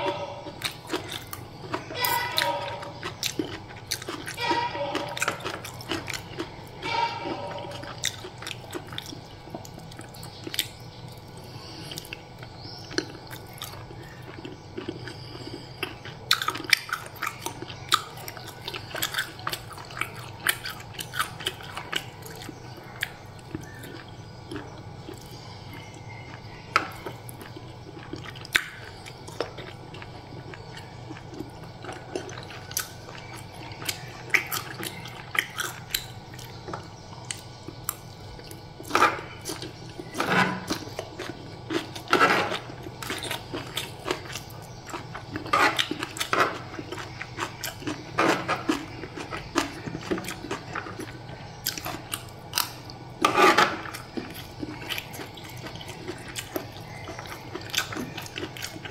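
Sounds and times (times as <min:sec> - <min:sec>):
low steady hum: 0:00.0 - 0:58.9
person chewing with wet mouth sounds: 0:00.0 - 0:58.9.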